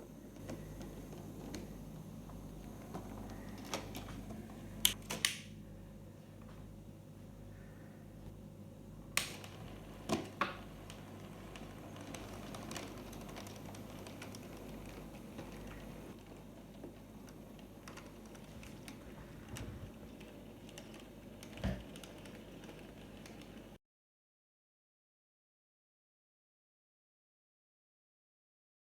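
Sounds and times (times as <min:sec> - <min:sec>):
faint steady hum: 0:00.0 - 0:23.8.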